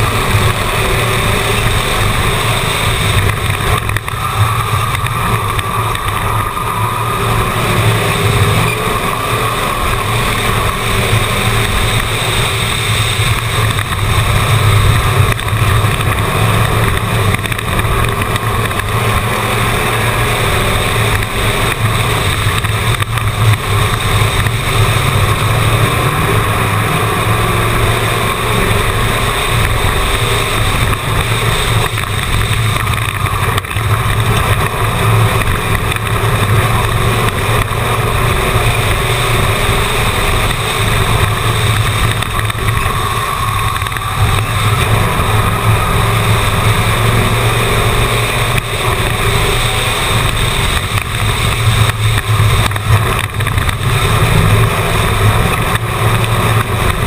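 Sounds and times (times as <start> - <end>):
race car engine droning: 0.0 - 57.0
wind and road noise: 0.0 - 57.0.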